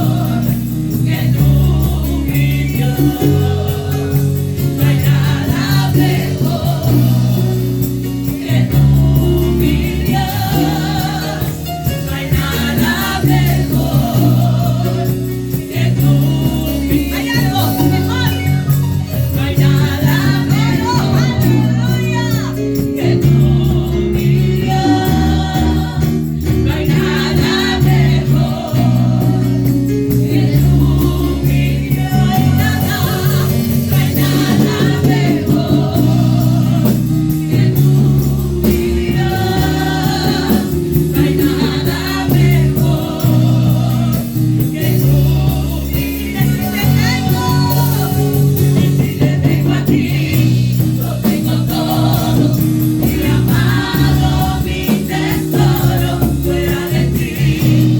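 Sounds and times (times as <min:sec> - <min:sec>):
live worship band playing: 0:00.0 - 0:57.9
singers singing: 0:00.0 - 0:57.9.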